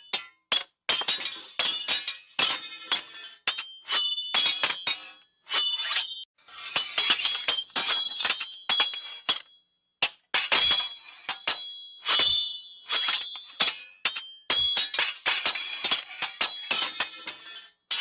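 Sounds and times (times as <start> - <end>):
sword blades clashing: 0.0 - 18.0.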